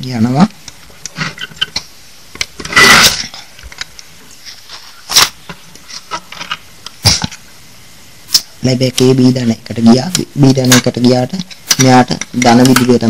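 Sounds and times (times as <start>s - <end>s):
circuit boards rustling: 0.0s - 7.6s, 8.3s - 13.0s.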